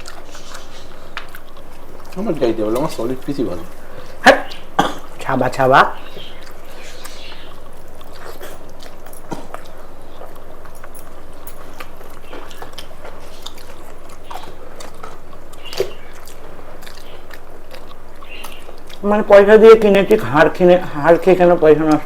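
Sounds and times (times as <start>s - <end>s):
low hum: 0.0s - 22.0s
people chewing: 0.0s - 22.0s.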